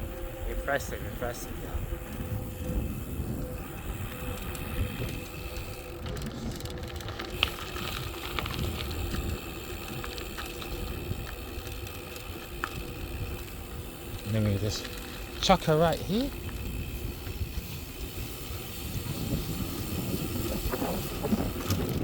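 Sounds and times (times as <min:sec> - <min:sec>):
bicycle tyres rumbling: 0:00.0 - 0:22.0
bike clicking and rattling: 0:00.0 - 0:22.0
wind on microphone: 0:00.0 - 0:22.0.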